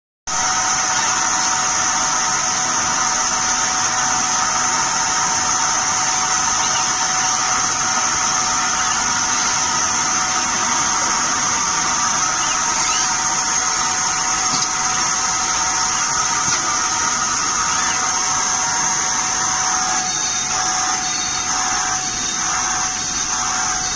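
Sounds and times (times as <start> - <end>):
machinery hiss: 0.3 - 23.9
machinery whining tones: 0.3 - 23.9.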